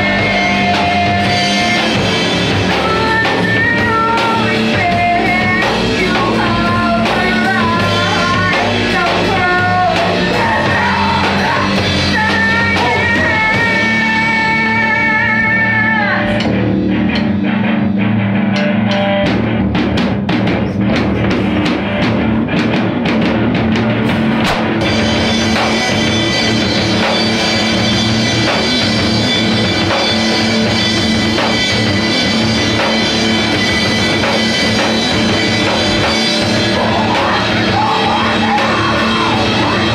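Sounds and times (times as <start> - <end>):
rock music: 0.0 - 39.9
sliding melodic guitar lead: 0.0 - 39.9.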